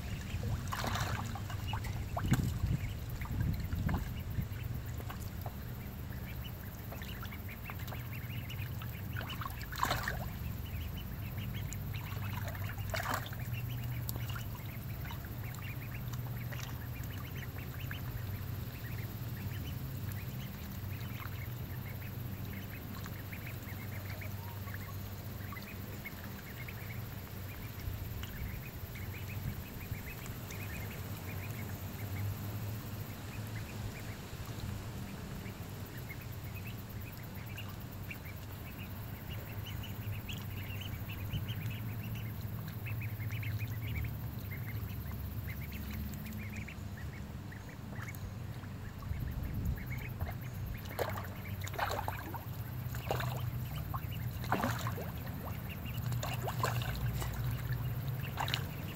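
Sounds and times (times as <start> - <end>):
ducks quacking: 0.0 - 32.3, 35.3 - 58.9
steady low hum: 0.0 - 58.9.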